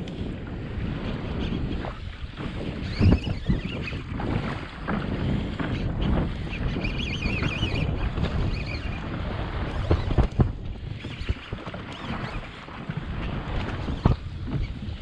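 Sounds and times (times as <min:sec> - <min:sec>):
water slapping against hull: 0:00.0 - 0:15.0
wind buffeting microphone: 0:00.0 - 0:15.0.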